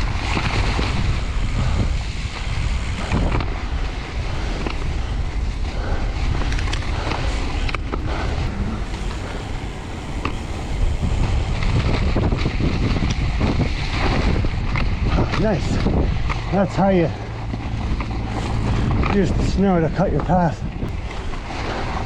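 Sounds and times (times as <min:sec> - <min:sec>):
tyres cutting through snow: 0:00.0 - 0:22.0
wind buffeting microphone: 0:00.0 - 0:22.0.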